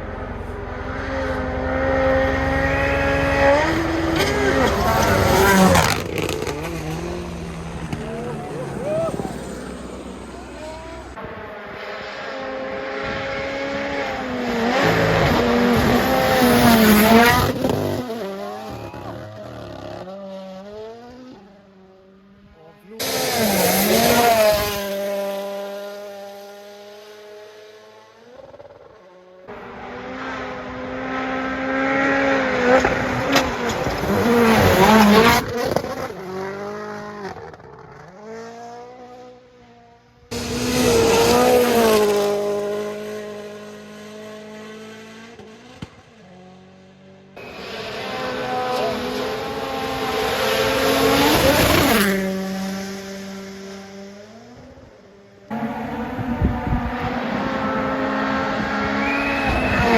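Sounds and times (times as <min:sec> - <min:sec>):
rally cars passing at full throttle: 0:00.0 - 0:59.9.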